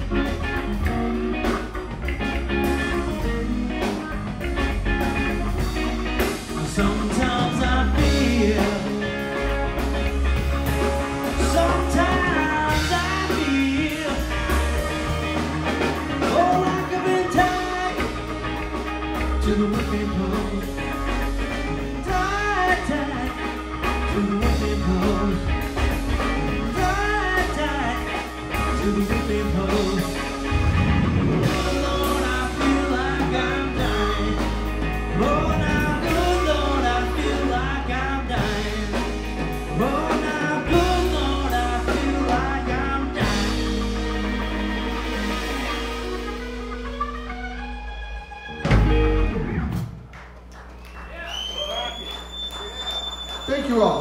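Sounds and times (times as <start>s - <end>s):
electric guitar bending notes: 0.0s - 50.8s
blues-rock band playing: 0.0s - 54.0s.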